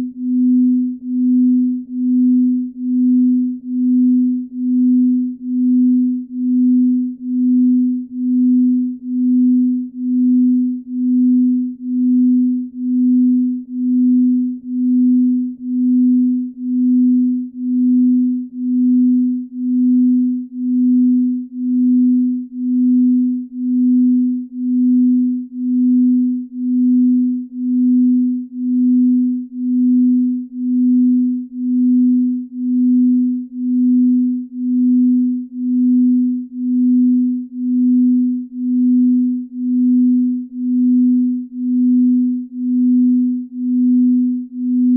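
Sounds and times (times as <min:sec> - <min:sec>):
low pulsing pure tone: 0:00.0 - 0:44.9.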